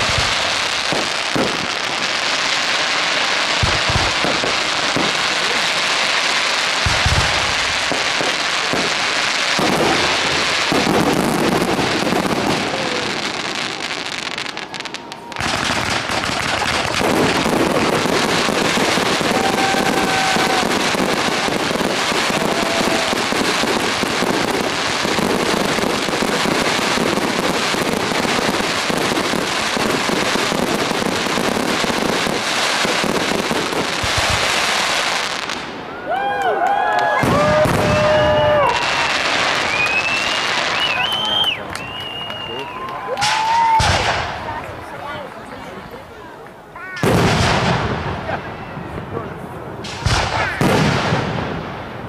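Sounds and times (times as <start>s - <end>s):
fireworks crackling and bursting: 0.0s - 52.0s.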